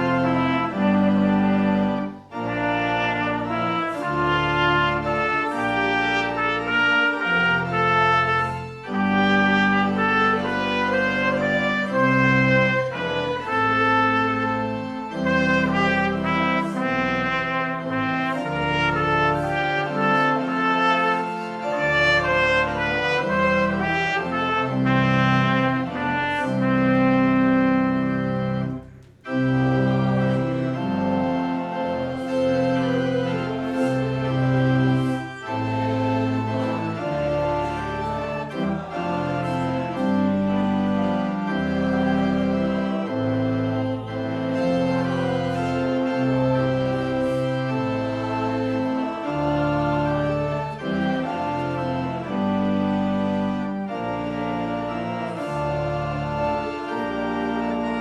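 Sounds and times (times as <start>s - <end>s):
organ playing hymn chords: 0.0s - 58.0s.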